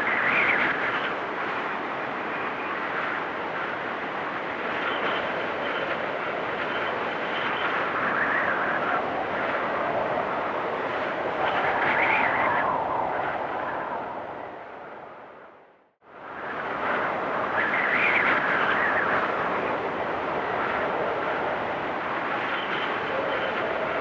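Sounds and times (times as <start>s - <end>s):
blizzard wind gusting: 0.0s - 24.0s
wind whistling: 0.0s - 24.0s.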